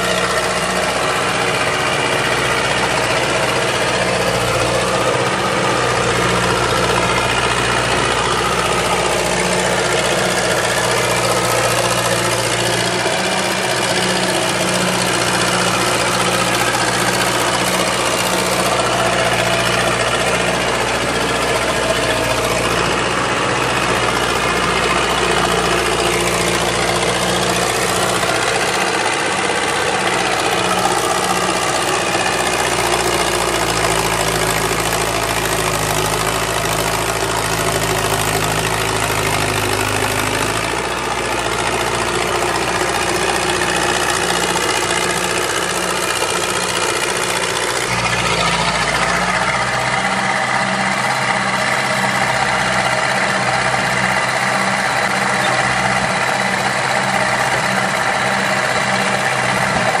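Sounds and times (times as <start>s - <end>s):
diesel loader engine under load: 0.0s - 60.0s.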